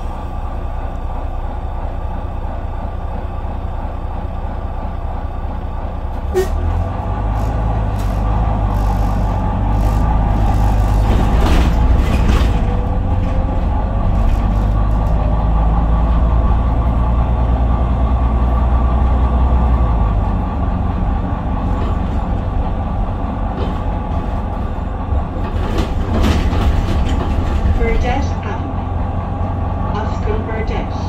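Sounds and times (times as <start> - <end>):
bus engine drone: 0.0 - 31.0
tyre road noise: 0.0 - 31.0.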